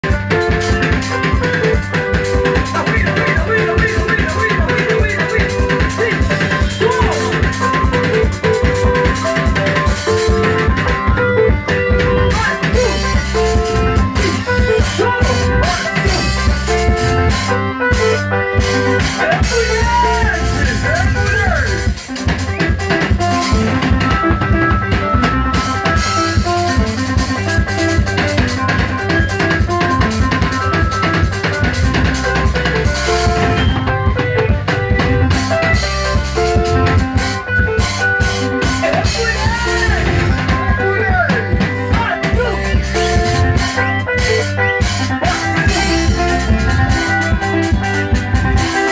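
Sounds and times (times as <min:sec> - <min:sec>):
band playing music: 0:00.0 - 0:48.9
bass line: 0:00.0 - 0:48.9
drum kit beat: 0:00.0 - 0:48.9
melody of short repeated notes: 0:00.0 - 0:48.9.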